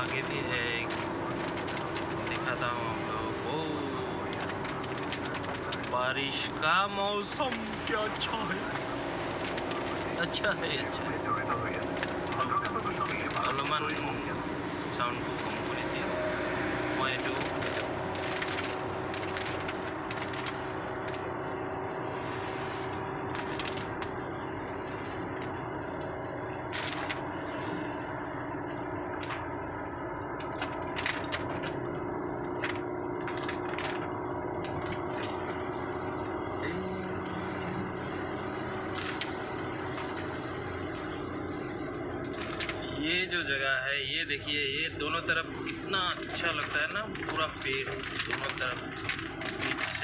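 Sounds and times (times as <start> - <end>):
rain hitting car windshield: 0.0 - 43.5, 45.6 - 50.0
engine and tyres on wet road: 0.0 - 50.0.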